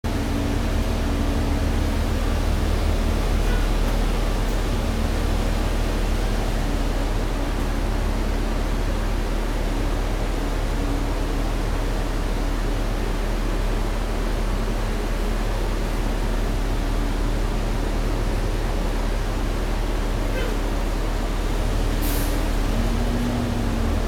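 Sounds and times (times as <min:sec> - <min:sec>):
bus cabin rumble and hiss: 0:00.1 - 0:24.0.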